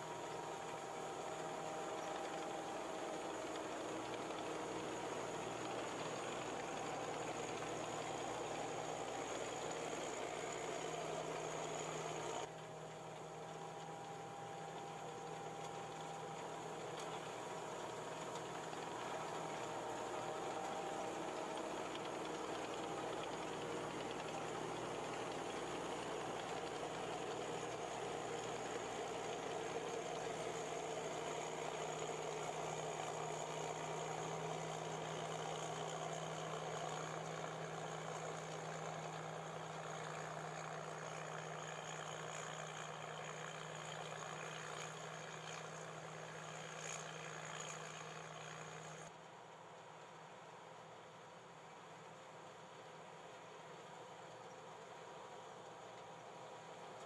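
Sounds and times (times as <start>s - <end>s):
combine harvester engine drone: 0.0s - 49.2s.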